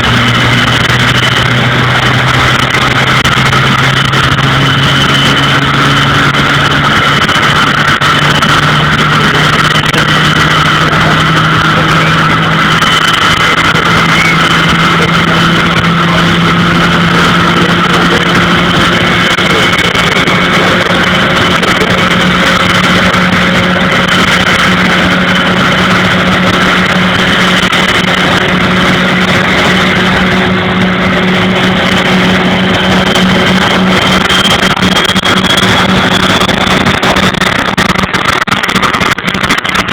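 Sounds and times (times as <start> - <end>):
turboprop engines whining: 0.0 - 39.9.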